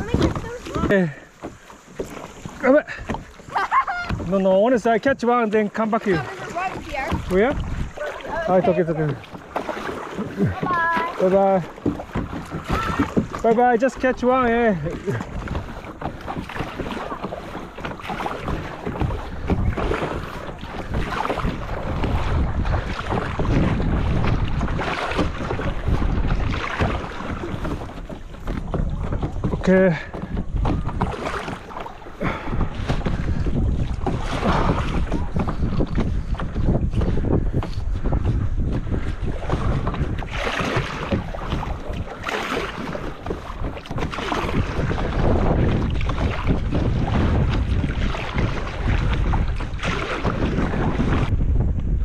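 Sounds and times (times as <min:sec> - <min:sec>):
paddle strokes splashing water: 0:00.0 - 0:52.0
wind buffeting microphone: 0:00.0 - 0:52.0.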